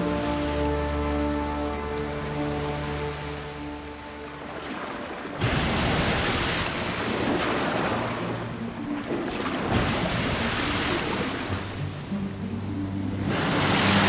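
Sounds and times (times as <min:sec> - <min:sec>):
sea water rushing and splashing: 0:00.0 - 0:14.0.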